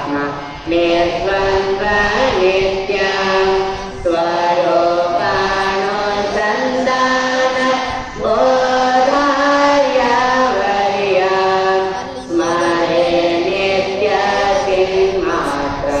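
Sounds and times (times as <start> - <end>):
group chanting prayer in unison: 0.0 - 16.0.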